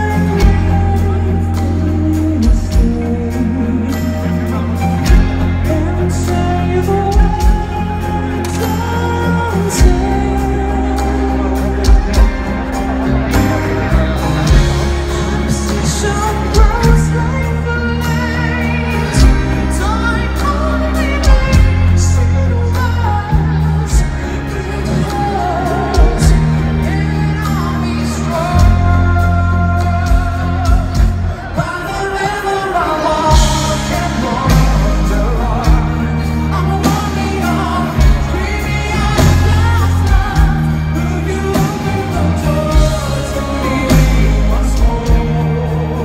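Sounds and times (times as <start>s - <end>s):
lead vocalist singing: 0.0s - 46.0s
live heavy metal band: 0.0s - 46.0s.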